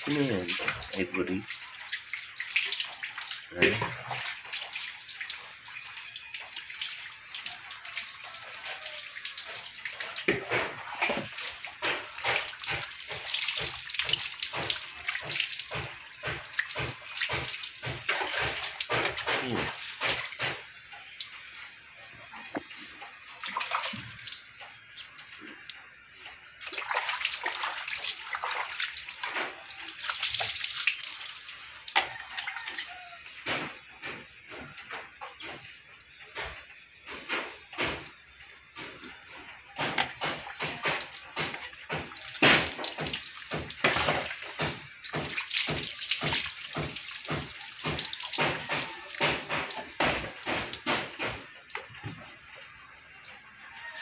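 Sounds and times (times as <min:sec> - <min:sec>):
water pouring: 0:00.0 - 0:54.0
water splashing and dripping: 0:00.0 - 0:54.0.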